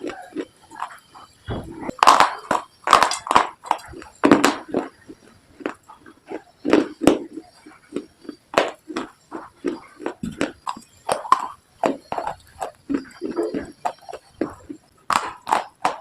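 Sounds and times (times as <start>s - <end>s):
crunchy food being chewed: 0.0s - 16.0s.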